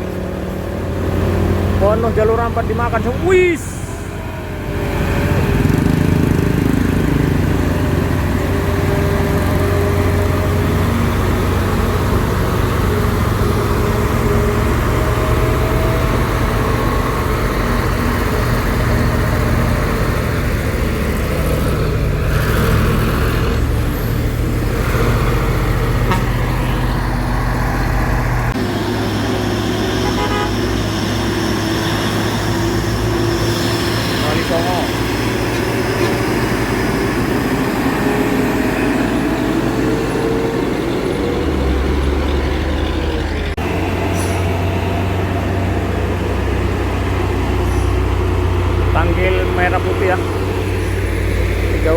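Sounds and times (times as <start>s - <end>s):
truck diesel engine under load: 0.0s - 51.9s.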